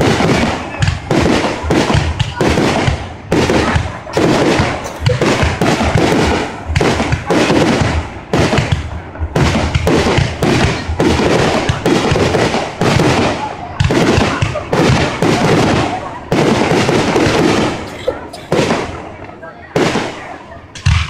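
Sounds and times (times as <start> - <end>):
fireworks bursting: 0.0 - 21.0
fireworks crackling: 0.0 - 21.0.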